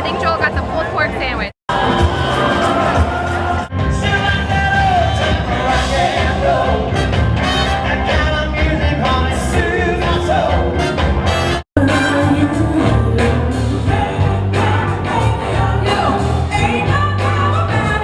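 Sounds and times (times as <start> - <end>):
rock band with singer: 1.7 - 18.0.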